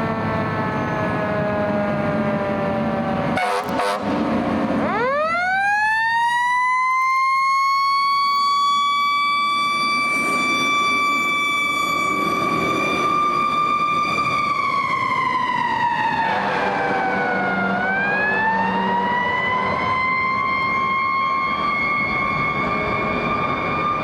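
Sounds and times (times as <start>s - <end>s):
fire engine siren: 0.0s - 24.0s.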